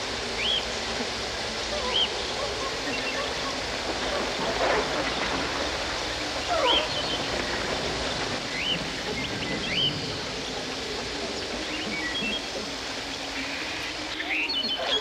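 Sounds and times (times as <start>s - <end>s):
rushing hiss of jungle ambience: 0.0s - 15.0s.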